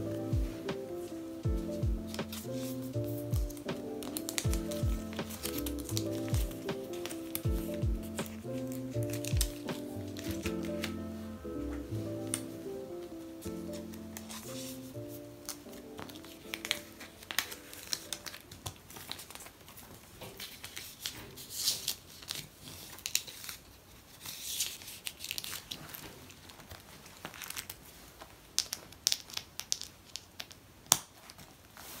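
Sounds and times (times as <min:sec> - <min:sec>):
plastic sleeves crinkling and rustling: 0:00.0 - 0:11.3, 0:12.2 - 0:32.0.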